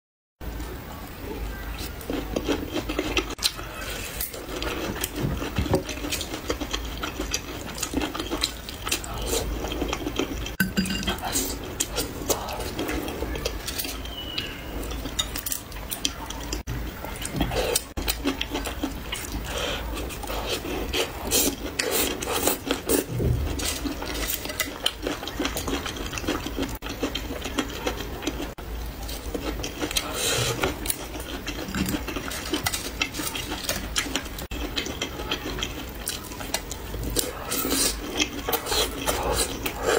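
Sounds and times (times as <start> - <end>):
chewing and crunching: 1.7 - 39.9.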